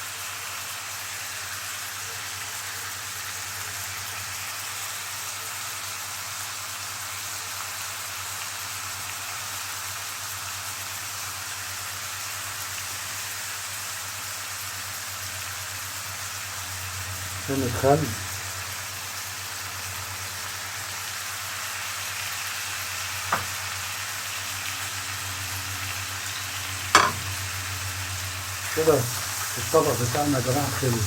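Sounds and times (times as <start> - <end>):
seafood sizzling in oil: 0.0 - 31.0.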